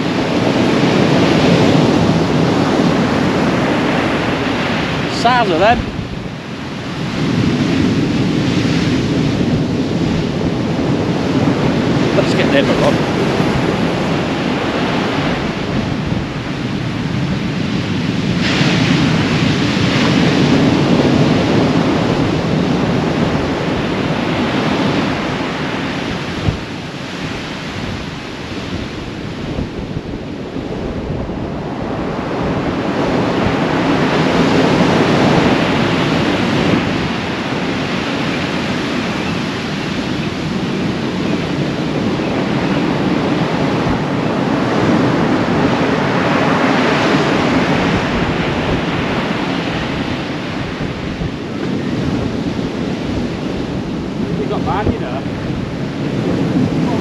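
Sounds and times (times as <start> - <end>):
heavy surf breaking: 0.0 - 57.0
wind buffeting microphone: 0.0 - 57.0.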